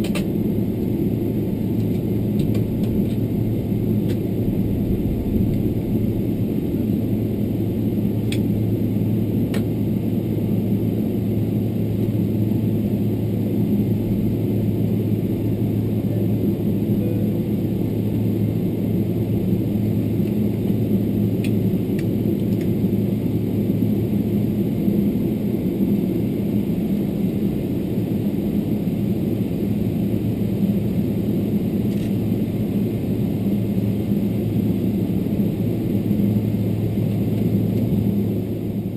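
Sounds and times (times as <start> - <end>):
airplane cabin rumble and hum: 0.0 - 38.9.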